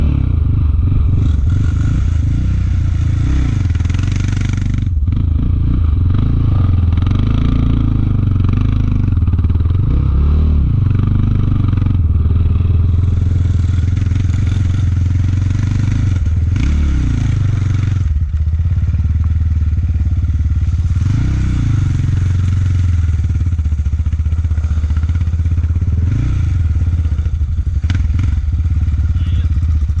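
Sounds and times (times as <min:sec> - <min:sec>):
quad bike engines revving: 0:00.0 - 0:30.0.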